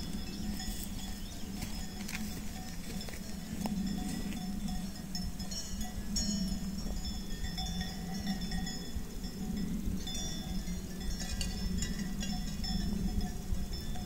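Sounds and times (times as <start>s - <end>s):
cow bells clanking: 0.0s - 14.0s
low steady rumble: 0.0s - 14.0s.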